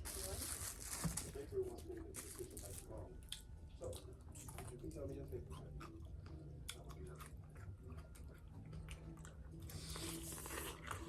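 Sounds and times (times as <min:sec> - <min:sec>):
chewing crispy chicken: 0:00.1 - 0:11.0.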